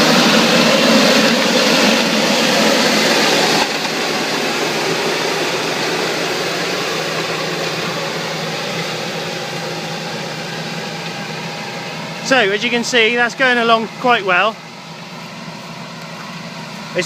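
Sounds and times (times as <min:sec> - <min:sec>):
tractor engine under load: 0:00.0 - 0:17.0.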